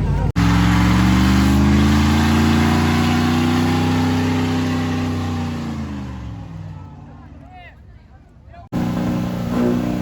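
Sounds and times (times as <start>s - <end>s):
truck engine at high revs: 0.0s - 7.2s, 8.7s - 10.0s.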